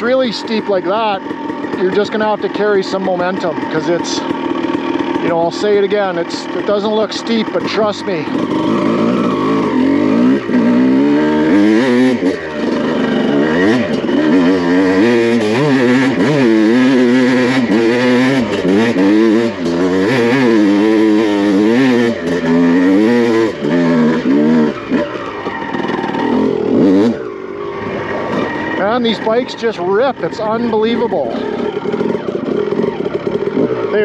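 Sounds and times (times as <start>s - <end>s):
two-stroke engine revving: 0.0s - 34.0s.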